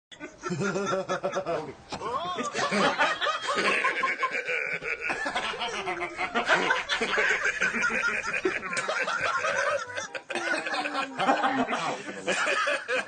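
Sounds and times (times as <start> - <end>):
men laughing together: 0.2 - 13.0.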